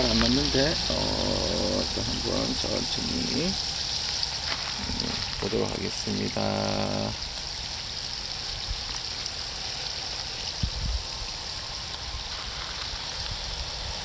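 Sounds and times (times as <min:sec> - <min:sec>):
water spraying from hoses: 0:00.0 - 0:14.0.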